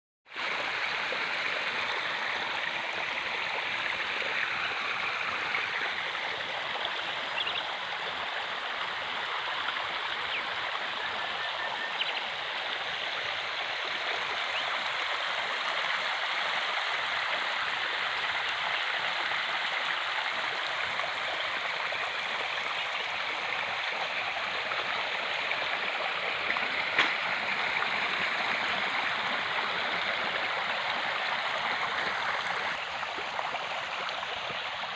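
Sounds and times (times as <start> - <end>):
stream running: 0.3 - 34.9.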